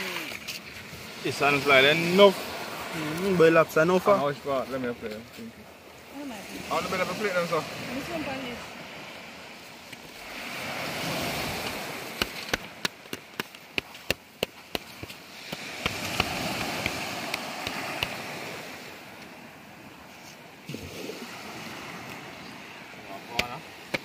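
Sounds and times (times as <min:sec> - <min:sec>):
surf washing on shore: 0:00.0 - 0:24.0.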